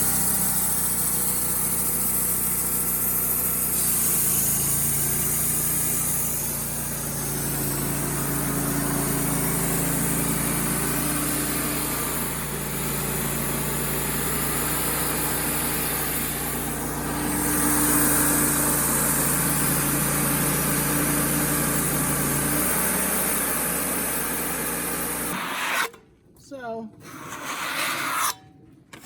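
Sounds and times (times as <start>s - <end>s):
bandsaw mill cutting log: 0.0s - 26.0s, 27.0s - 29.0s.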